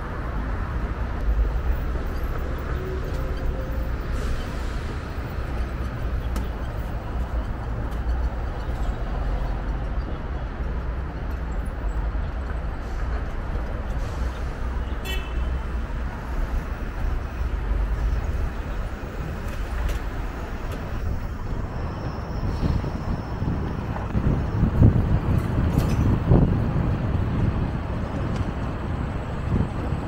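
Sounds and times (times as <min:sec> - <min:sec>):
city street traffic rumble: 0:00.0 - 0:30.0.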